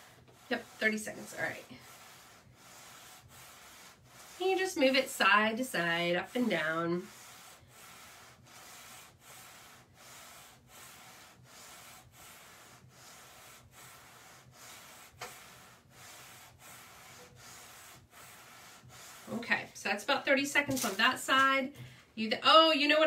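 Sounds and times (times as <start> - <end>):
heat press rubbing swishes: 0.0 - 21.6.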